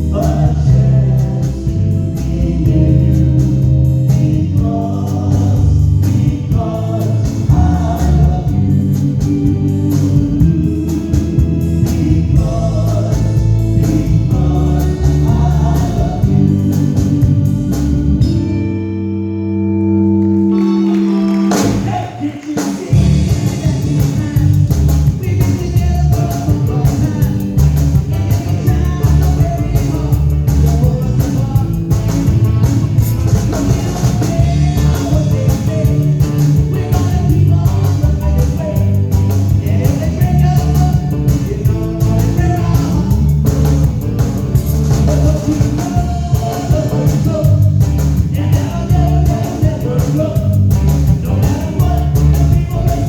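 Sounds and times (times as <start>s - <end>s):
rock and roll song with singing: 0.0s - 53.0s.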